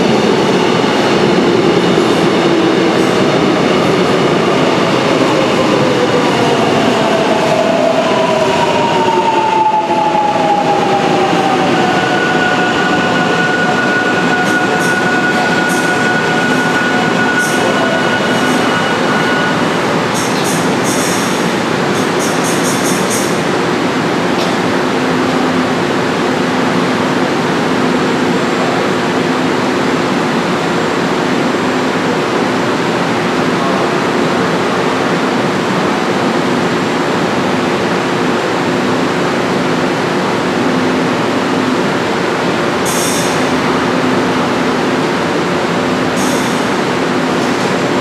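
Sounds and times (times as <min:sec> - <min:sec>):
stopped train hum and hiss: 0:00.0 - 0:48.0.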